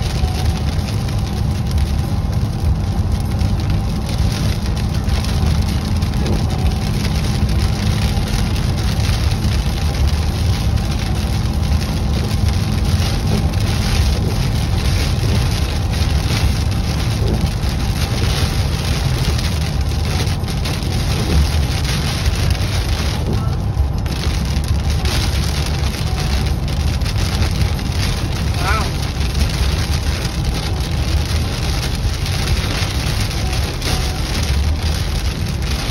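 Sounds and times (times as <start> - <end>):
heavy rain hitting windshield: 0.0 - 35.9
road and tyre noise: 0.0 - 35.9.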